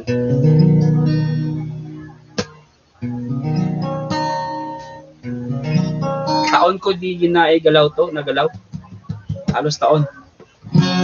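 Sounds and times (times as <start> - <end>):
acoustic guitar chords strummed: 0.0 - 11.0.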